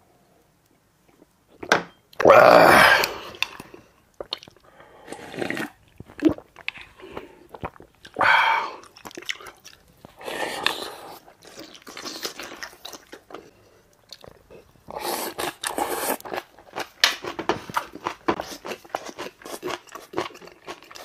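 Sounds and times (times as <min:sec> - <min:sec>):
person chewing and crunching food: 0:01.0 - 0:21.0.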